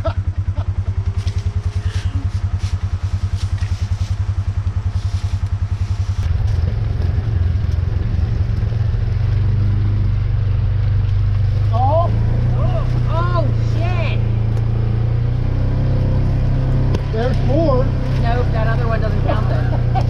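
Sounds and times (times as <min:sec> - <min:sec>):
buggy engine idling: 0:00.0 - 0:20.0.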